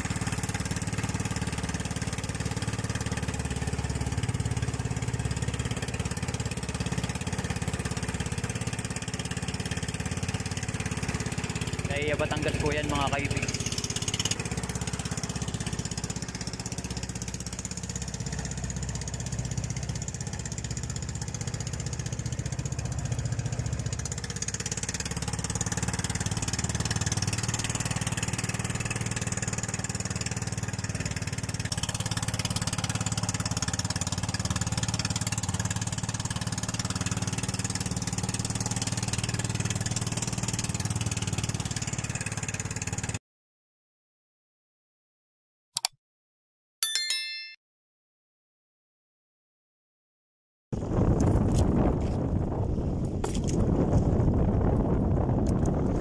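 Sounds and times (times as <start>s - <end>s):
small boat engine running: 0.0s - 43.2s, 50.8s - 56.0s.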